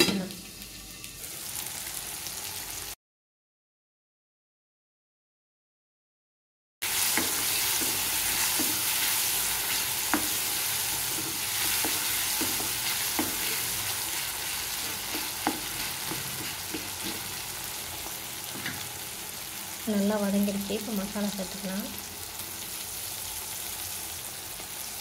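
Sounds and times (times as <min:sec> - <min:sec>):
vegetables sizzling in oil: 0:00.0 - 0:03.0, 0:06.8 - 0:25.0.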